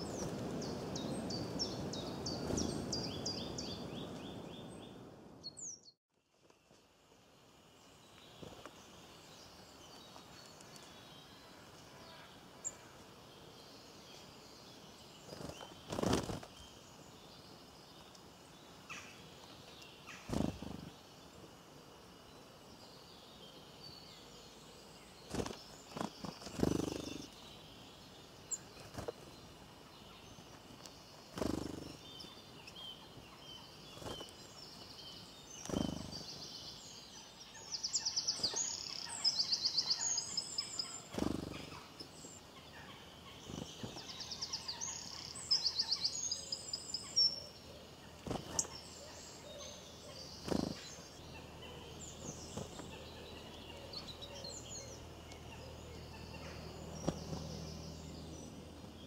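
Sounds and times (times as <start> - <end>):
birds chirping and trilling: 0.0 - 6.0, 7.9 - 59.0.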